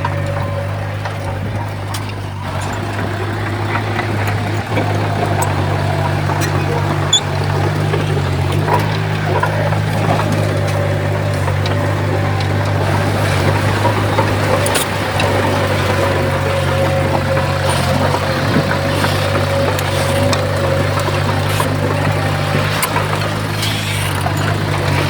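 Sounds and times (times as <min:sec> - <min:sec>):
bulldozer diesel engine running: 0:00.0 - 0:25.0
constant whine: 0:00.0 - 0:25.0.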